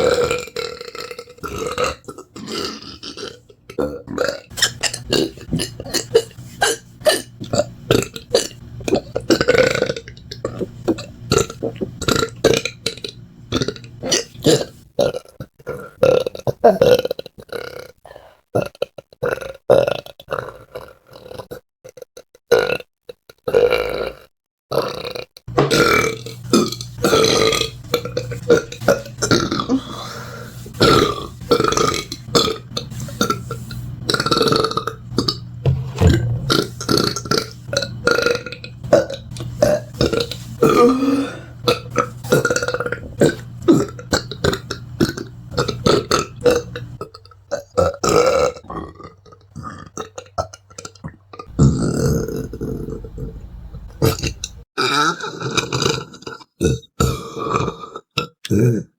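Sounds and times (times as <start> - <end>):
person belching: 0.0 - 17.9, 18.6 - 53.2, 54.0 - 58.9.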